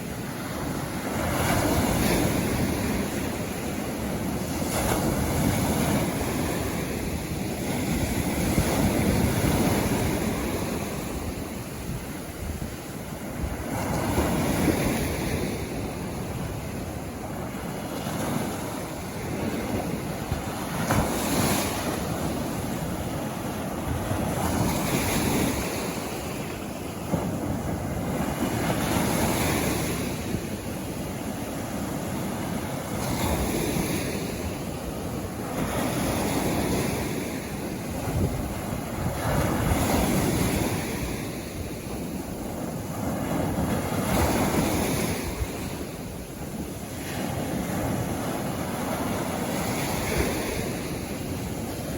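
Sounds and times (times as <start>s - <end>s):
waves breaking on a beach: 0.0s - 51.9s
wind noise on microphone: 0.0s - 51.9s.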